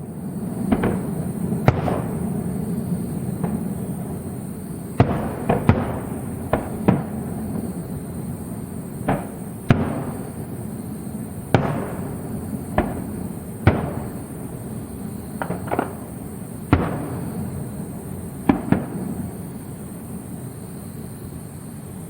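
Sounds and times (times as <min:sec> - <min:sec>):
firework shells bursting: 0:00.0 - 0:19.8.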